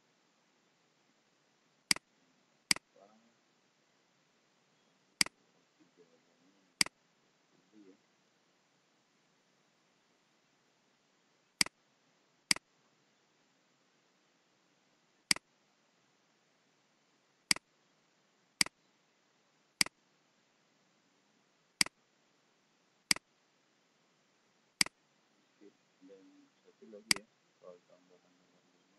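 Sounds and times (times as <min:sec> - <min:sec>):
faint steady hiss: 0:00.0 - 0:28.9.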